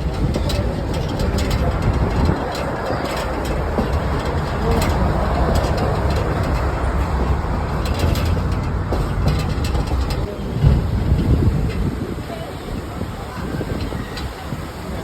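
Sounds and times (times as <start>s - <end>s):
faint clicks and rattles: 0.0s - 12.3s
train wheels rumbling on rails: 0.0s - 15.0s.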